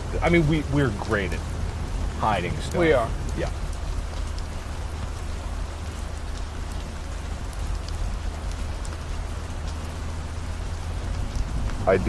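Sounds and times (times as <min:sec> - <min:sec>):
car interior road drone: 0:00.0 - 0:12.0
raindrop ticks: 0:00.0 - 0:12.0
steady rain: 0:00.0 - 0:12.0.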